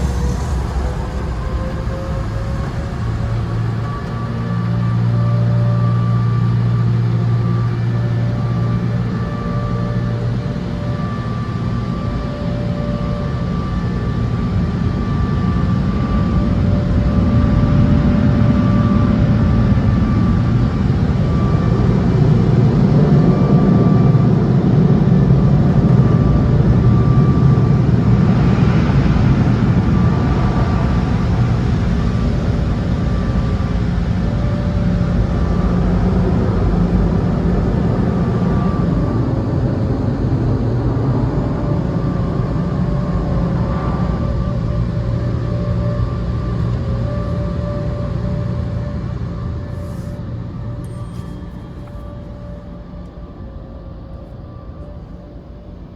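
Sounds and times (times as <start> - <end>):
car wash machinery rumble: 0.0 - 55.9
faint whining tones: 0.0 - 55.9.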